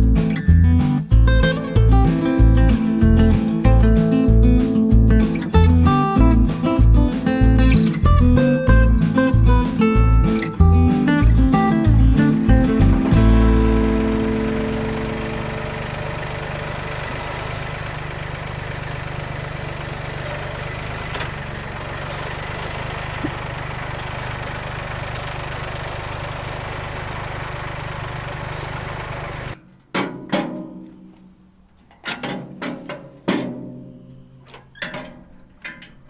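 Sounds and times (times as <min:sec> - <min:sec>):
tractor engine running: 0:00.0 - 0:29.6.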